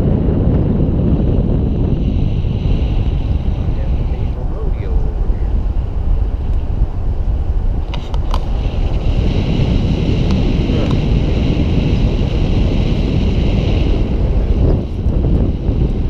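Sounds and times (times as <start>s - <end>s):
vehicle driving rumble: 0.0s - 16.0s
wind buffeting microphone: 0.0s - 16.0s.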